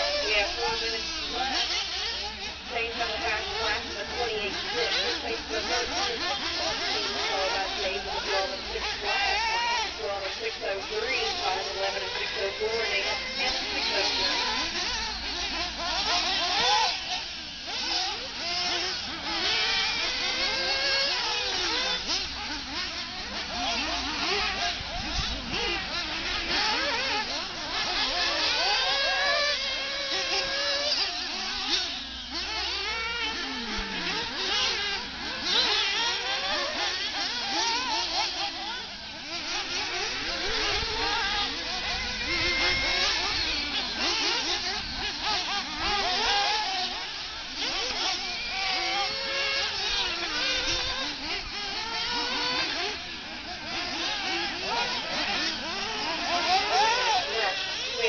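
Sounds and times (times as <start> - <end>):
radio-controlled buggy motors revving: 0.0 - 58.0.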